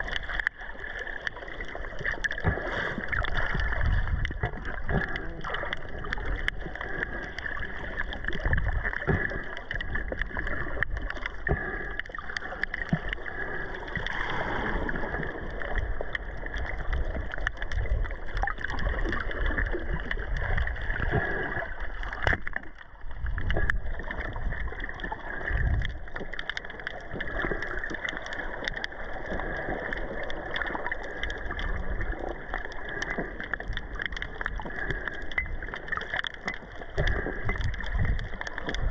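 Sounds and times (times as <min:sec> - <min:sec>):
muffled underwater water wash: 0:00.0 - 0:38.9
small underwater clicks and crackles: 0:00.0 - 0:38.9.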